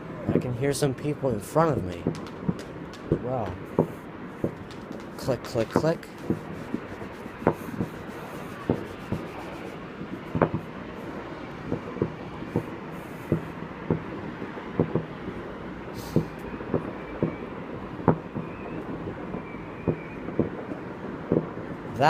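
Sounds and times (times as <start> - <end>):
steady background hiss: 0.0 - 22.0
fireworks popping: 0.3 - 15.3, 15.9 - 22.0.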